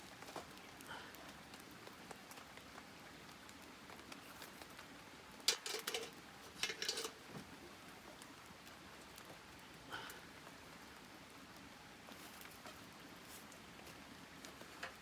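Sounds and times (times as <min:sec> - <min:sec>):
campfire crackling: 0:00.0 - 0:15.0
loud rough fire crackles: 0:00.0 - 0:15.0.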